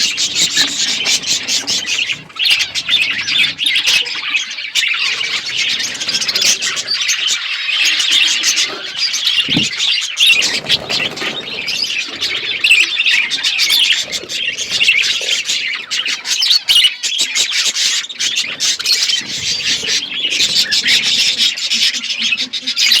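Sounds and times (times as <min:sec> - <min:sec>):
bird squawks: 0:00.0 - 0:23.0
budgerigars chirping and chattering: 0:00.0 - 0:23.0.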